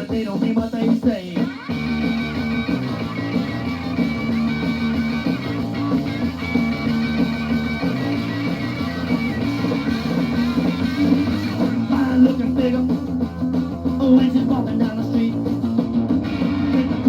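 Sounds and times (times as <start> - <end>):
electric guitar: 0.0 - 17.0
rock band playing on vinyl record: 0.0 - 17.0.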